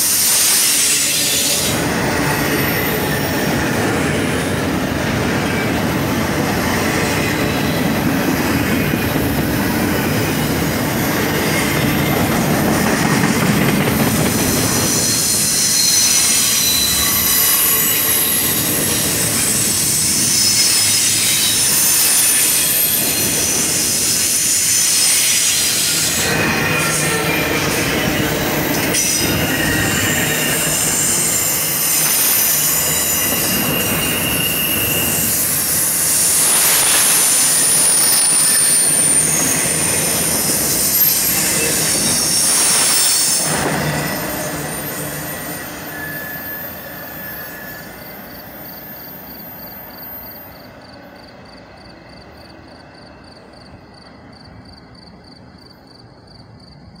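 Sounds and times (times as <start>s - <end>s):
freight train rolling past: 0.0s - 57.0s
steel wheels squealing on rails: 0.0s - 57.0s.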